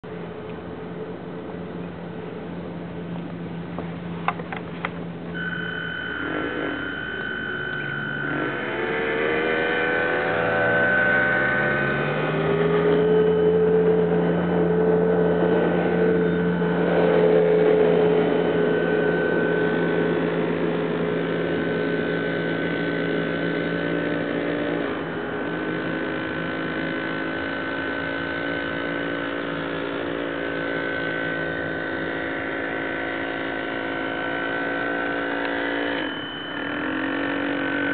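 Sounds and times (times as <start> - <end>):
model boat motor whine: 0.0 - 37.9.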